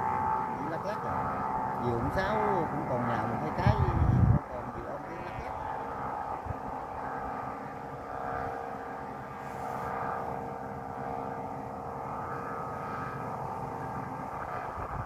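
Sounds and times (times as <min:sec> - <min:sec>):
humming kites droning: 0:00.0 - 0:15.0
low rumble of wind: 0:00.0 - 0:15.0.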